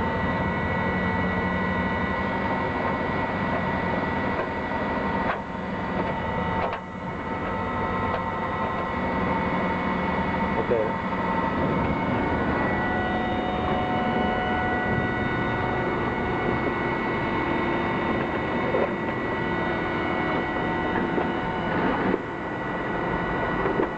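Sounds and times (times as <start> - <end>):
lathe running with hum and whine: 0.0 - 23.9.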